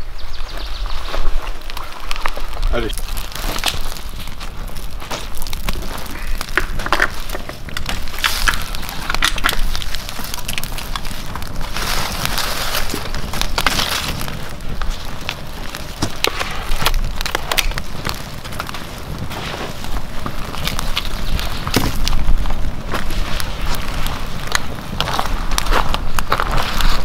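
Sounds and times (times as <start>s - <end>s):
campfire crackling: 0.0s - 27.0s
sticks laid on fire rustling: 1.2s - 27.0s
wood snapping: 1.3s - 27.0s.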